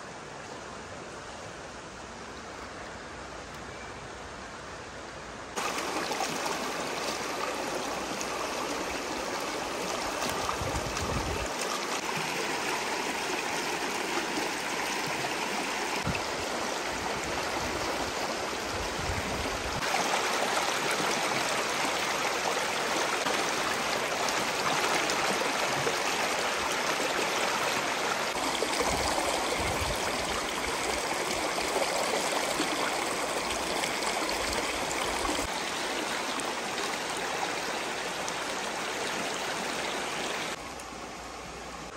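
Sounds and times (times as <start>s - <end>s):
stream rushing over rocks: 5.5s - 41.9s.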